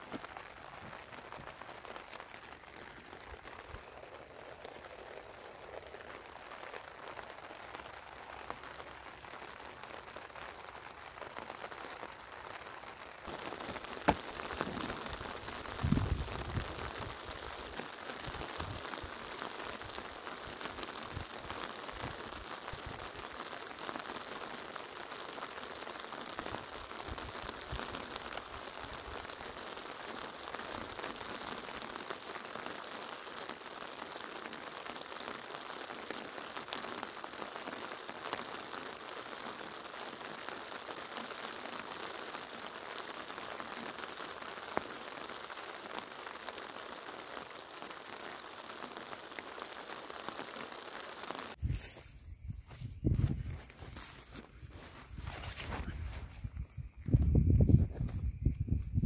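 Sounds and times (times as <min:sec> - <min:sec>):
steady rain: 0:00.0 - 0:57.5.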